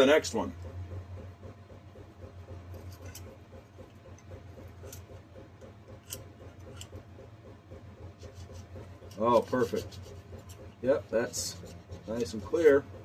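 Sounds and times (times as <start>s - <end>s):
faint fast ticking: 0.0s - 13.0s
steady low hum: 0.0s - 13.0s.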